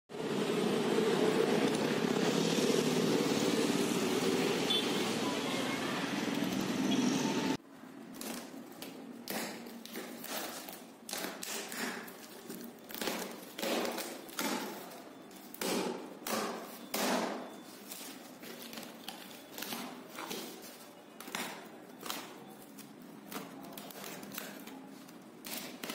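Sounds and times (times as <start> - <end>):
street traffic: 0.1 - 25.9.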